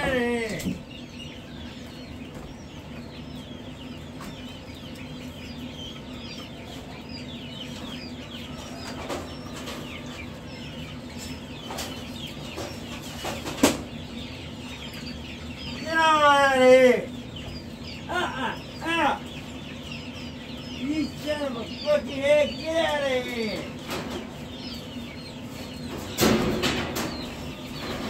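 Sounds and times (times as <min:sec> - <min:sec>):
chicks peeping: 0:00.0 - 0:28.0
steady low hum: 0:00.0 - 0:28.0.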